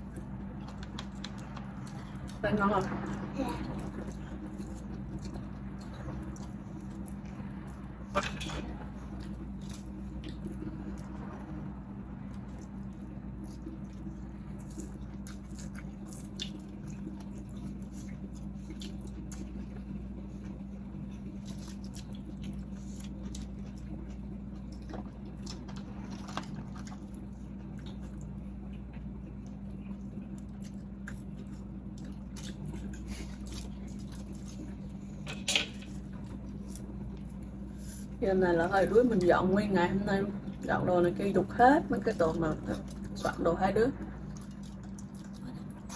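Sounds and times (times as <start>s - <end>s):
chewing food: 0.0s - 39.3s, 40.4s - 45.9s.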